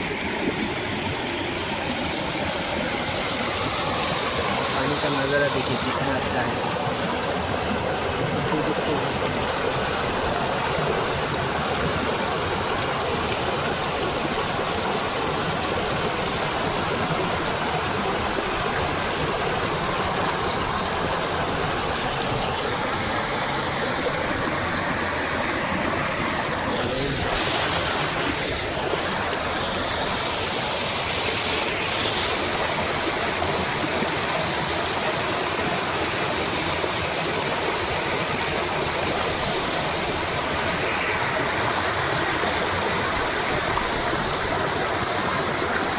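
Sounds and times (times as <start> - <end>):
water rushing at a dam: 0.0 - 45.9.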